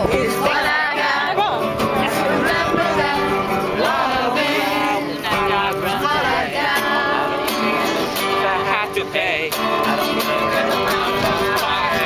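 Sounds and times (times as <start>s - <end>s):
song with sung melody: 0.0s - 12.0s.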